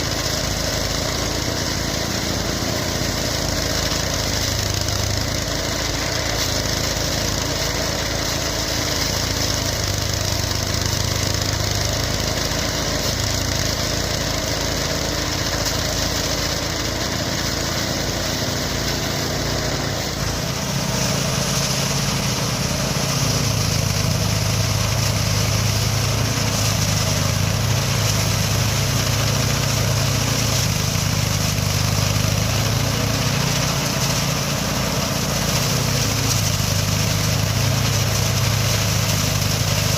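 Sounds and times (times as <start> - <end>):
small threshing machine engine: 0.0 - 39.9.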